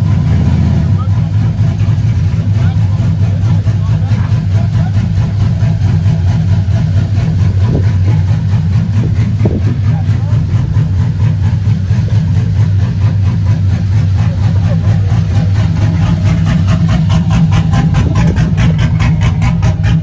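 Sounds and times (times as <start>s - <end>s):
faint voices: 0.0s - 19.9s
vehicle engine droning: 0.0s - 20.0s.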